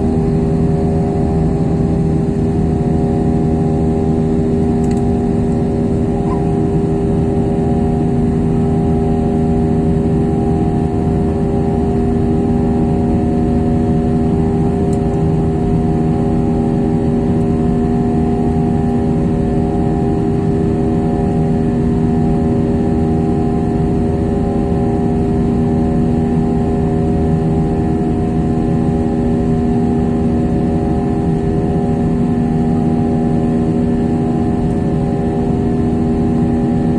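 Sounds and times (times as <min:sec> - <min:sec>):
jet engines droning in cabin: 0:00.0 - 0:36.9.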